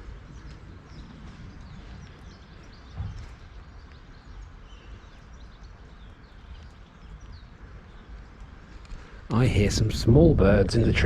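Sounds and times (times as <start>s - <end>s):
small birds chirping: 0.0s - 10.4s
steady low rumble: 0.0s - 11.0s.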